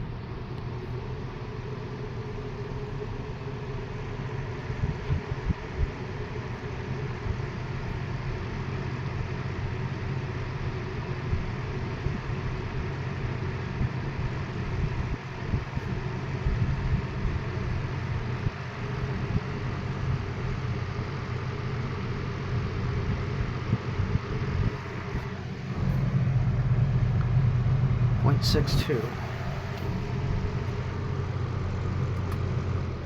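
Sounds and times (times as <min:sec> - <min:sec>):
box fan running: 0:00.0 - 0:33.0.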